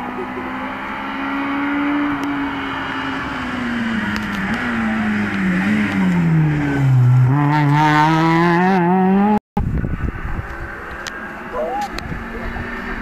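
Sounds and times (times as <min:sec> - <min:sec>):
rally car engine: 0:00.0 - 0:13.0.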